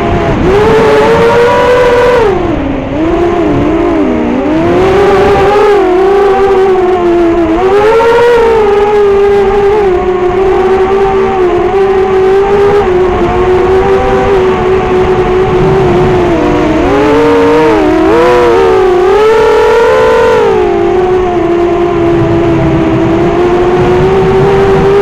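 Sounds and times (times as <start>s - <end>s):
drone motors whining: 0.0s - 25.0s
wind rumble on microphone: 0.0s - 25.0s.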